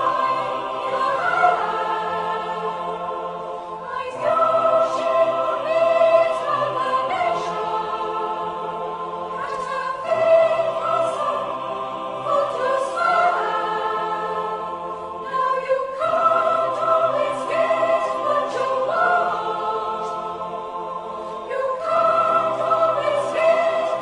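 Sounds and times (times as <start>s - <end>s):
choir singing sustained chords: 0.0s - 24.0s.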